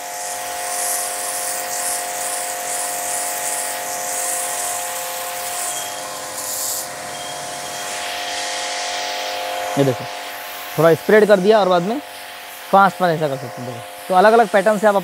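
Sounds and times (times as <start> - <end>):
pressure washer motor hum: 0.0 - 15.0
water jet hissing on concrete: 0.0 - 15.0.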